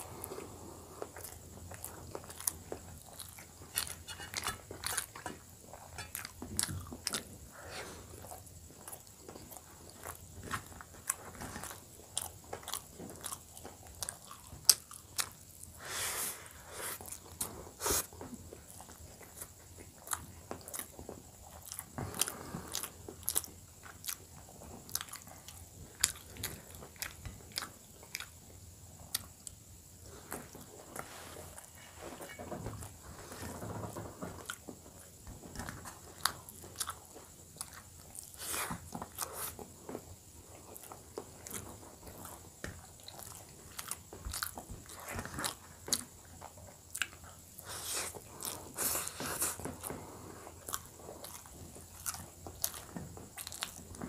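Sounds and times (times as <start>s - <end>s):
person chewing food: 0.0s - 15.8s, 16.4s - 54.0s.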